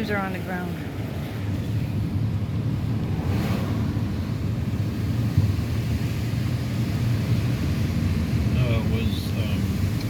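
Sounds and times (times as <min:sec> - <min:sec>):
car engine: 0:00.0 - 0:10.0
tyre and road noise: 0:00.0 - 0:10.0.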